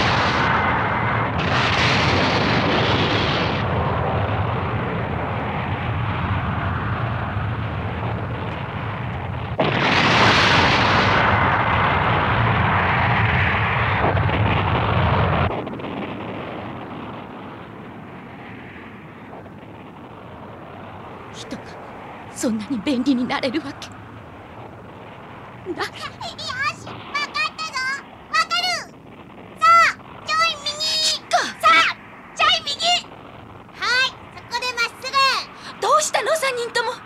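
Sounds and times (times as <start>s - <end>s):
explosion blast: 0.0s - 35.8s
rumble of explosions: 0.0s - 37.0s.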